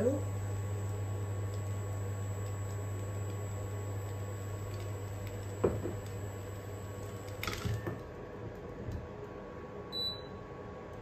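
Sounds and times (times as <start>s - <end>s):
induction hob humming: 0.0s - 11.0s.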